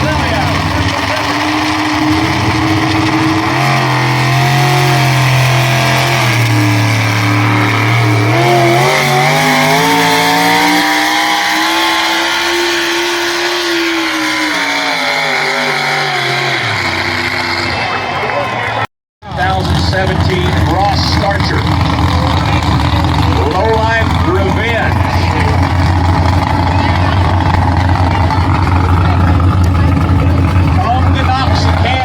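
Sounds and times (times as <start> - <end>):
engine running hard under load: 0.0 - 32.0.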